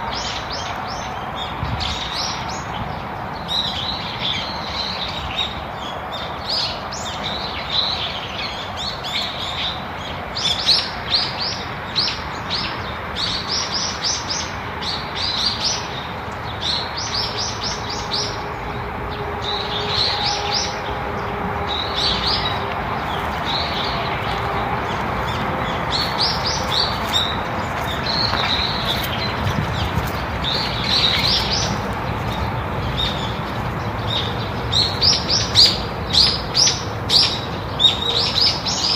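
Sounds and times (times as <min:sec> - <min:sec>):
wild birds chirping: 0:00.0 - 0:38.9.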